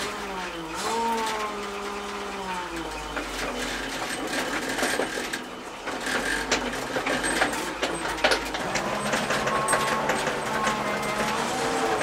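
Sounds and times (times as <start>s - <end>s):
truck engine running: 0.0s - 12.0s
cab clicks and rattles: 0.8s - 12.0s.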